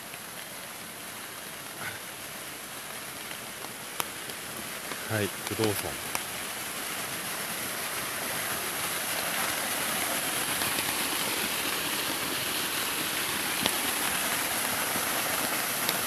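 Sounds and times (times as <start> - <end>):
small waterfall splashing over rocks: 0.0 - 16.0.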